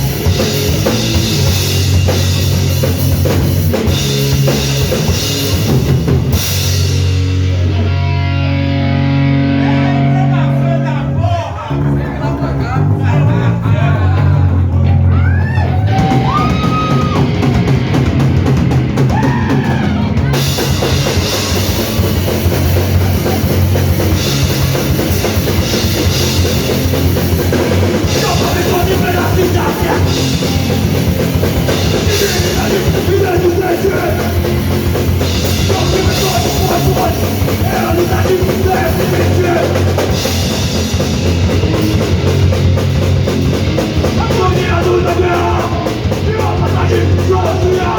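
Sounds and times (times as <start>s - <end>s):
drums with cymbals: 0.0s - 8.2s, 14.2s - 47.9s
punk band playing loud: 0.0s - 47.9s.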